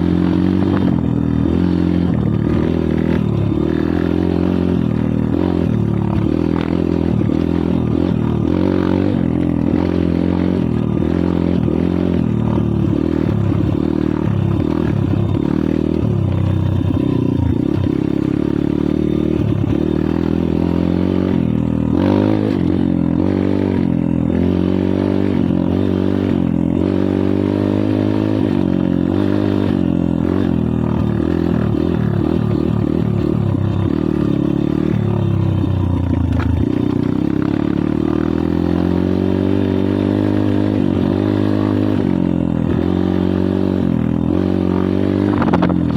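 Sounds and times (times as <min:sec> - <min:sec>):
pit bike engine revving: 0:00.0 - 0:45.9.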